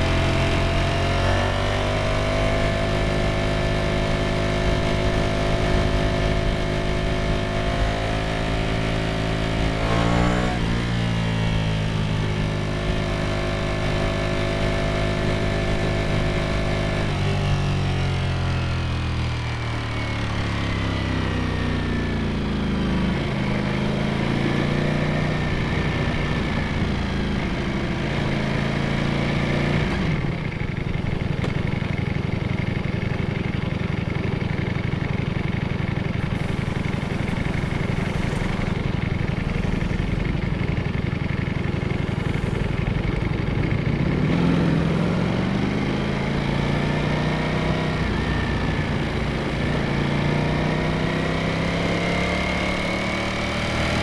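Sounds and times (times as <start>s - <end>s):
motorcycle engine and exhaust: 0.0s - 54.0s.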